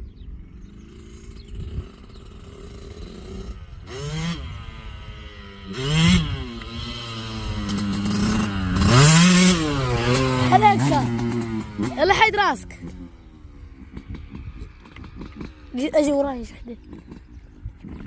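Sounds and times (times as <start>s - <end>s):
two-stroke dirt bike engine: 0.4s - 18.0s.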